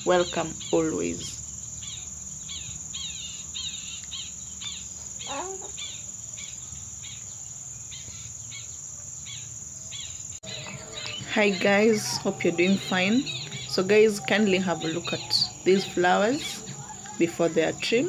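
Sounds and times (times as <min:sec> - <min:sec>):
crickets trilling: 0:00.0 - 0:18.0
lower falling insect call: 0:00.0 - 0:18.0.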